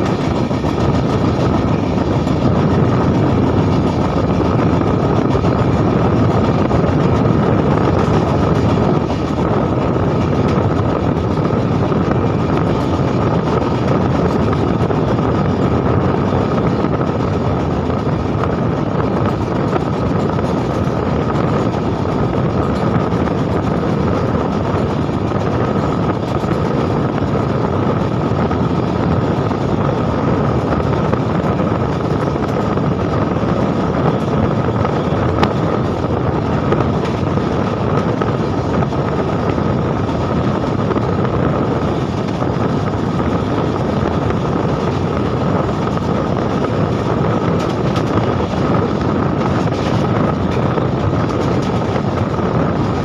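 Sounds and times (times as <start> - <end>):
steady whine: 0.0 - 53.0
train wheels rolling on rails: 0.0 - 53.0
wind rushing: 0.0 - 53.0.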